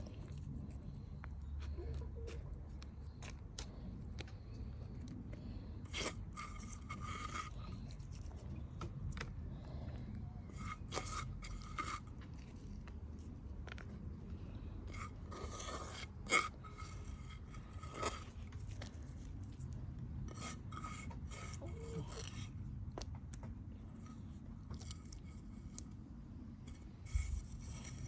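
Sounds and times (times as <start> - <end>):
hands scraping in a planting pot: 0.0 - 23.0, 23.7 - 28.0
steady low rumble: 0.0 - 28.0.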